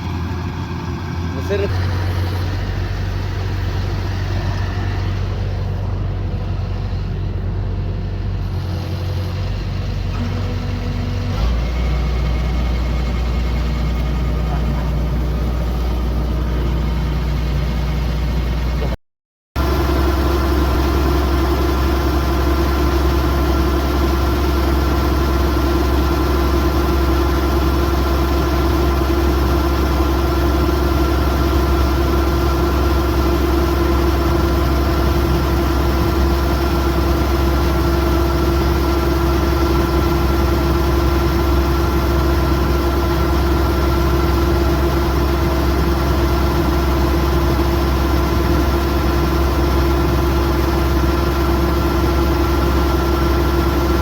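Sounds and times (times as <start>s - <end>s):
diesel engine droning: 0.0s - 19.0s, 19.6s - 54.0s.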